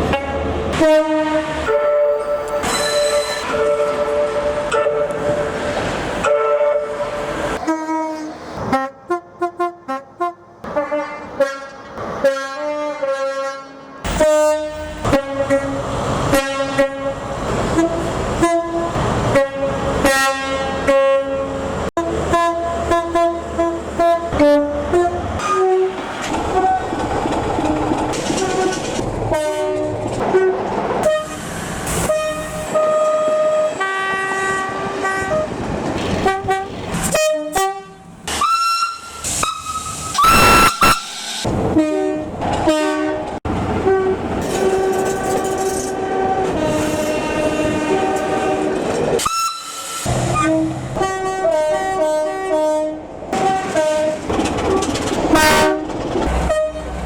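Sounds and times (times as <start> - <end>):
two-tone locomotive horn toots: 0.0 - 5.6, 6.2 - 26.9, 27.6 - 35.6, 36.2 - 41.1, 41.7 - 57.0
train passing: 0.0 - 57.0.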